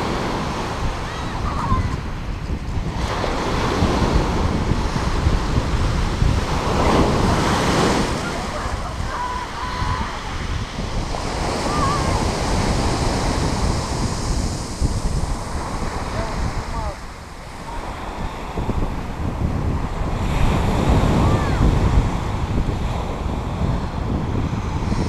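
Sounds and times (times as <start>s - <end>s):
waves washing over pebbles: 0.0s - 25.0s
wind buffeting microphone: 0.0s - 25.0s.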